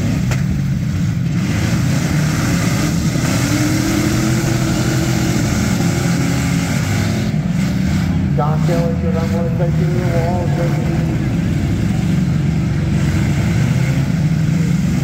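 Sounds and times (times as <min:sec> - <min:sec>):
car engines rumbling: 0:00.0 - 0:15.0
engine revving: 0:00.0 - 0:15.0.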